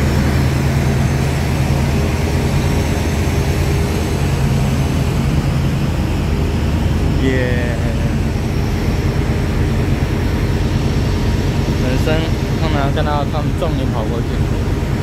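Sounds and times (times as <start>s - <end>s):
diesel locomotives idling: 0.0s - 15.0s.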